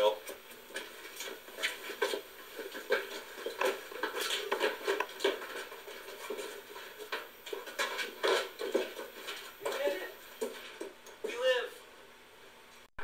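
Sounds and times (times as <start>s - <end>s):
footsteps on hard floor: 0.2s - 11.0s.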